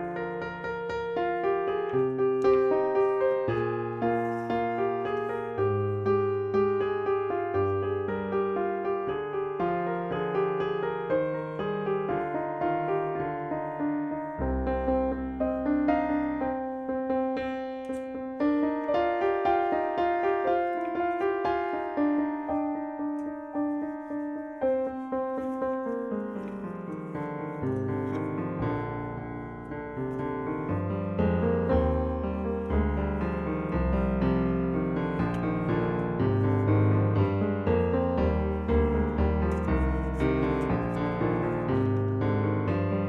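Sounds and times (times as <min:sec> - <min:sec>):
background piano music: 0:00.0 - 0:43.0.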